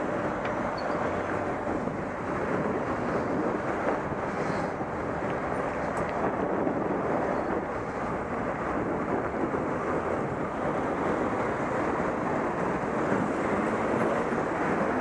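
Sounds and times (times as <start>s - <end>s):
city road traffic hum: 0.0s - 15.0s
wind noise on microphone: 0.0s - 15.0s.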